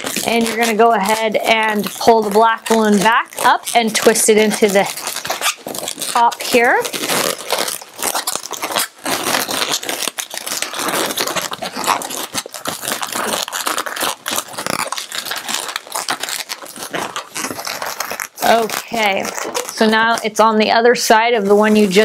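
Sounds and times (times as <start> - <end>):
balloons squeaking and rubbing: 0.0 - 22.0.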